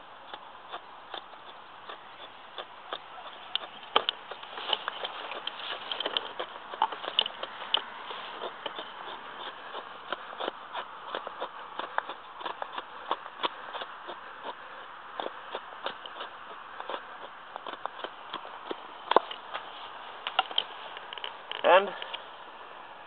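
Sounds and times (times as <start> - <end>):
axe cutting wood: 0.3 - 21.7.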